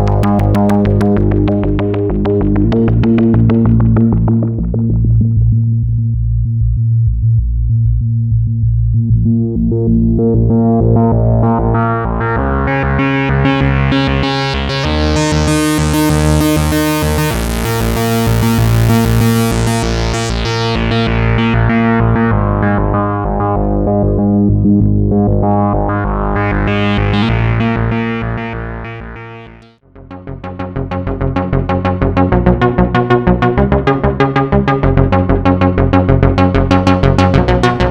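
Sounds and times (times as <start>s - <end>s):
fast repeating synthesizer notes: 0.0s - 5.6s, 9.3s - 29.8s, 30.4s - 37.9s
deep synthesizer filter sweeps: 0.0s - 37.9s.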